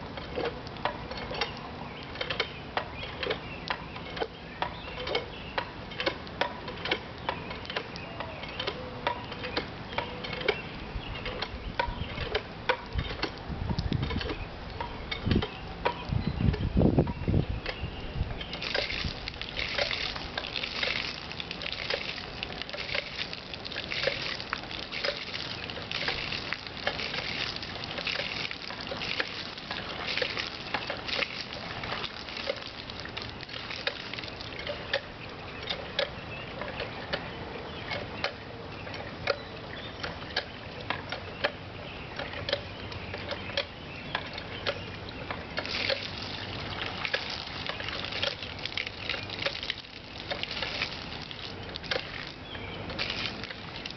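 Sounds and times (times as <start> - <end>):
water gushing from pump spout: 0.0 - 14.4, 18.4 - 41.3, 42.1 - 53.9
pump clicks: 0.0 - 53.9.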